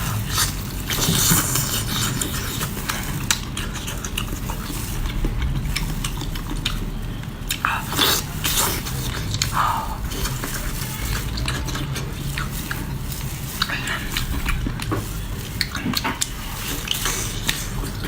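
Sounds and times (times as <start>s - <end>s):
low steady hum: 0.0s - 18.0s
wet clicks and crackles of eating: 0.0s - 18.0s.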